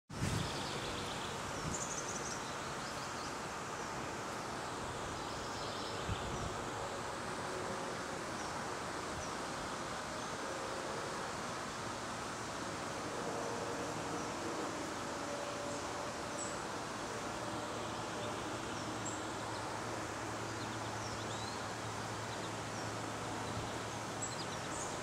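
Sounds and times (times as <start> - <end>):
steady background hiss: 0.2 - 25.0.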